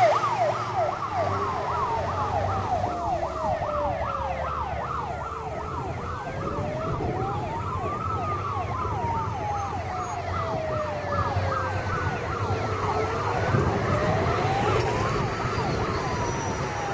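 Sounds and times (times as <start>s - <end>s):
fast yelping siren: 0.0s - 16.9s
road traffic: 0.0s - 16.9s
slow wailing siren: 0.0s - 16.9s
truck engines rumbling: 0.0s - 16.9s.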